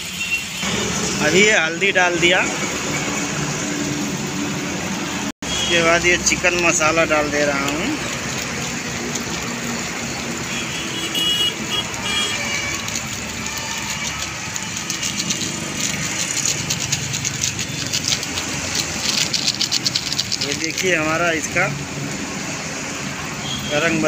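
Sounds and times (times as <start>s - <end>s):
chicken sizzling in hot oil: 0.0s - 4.8s, 5.5s - 23.7s.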